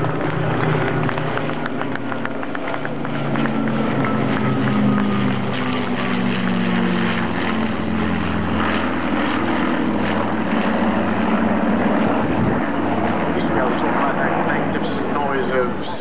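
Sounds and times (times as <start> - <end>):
propeller engines droning: 0.0 - 16.0.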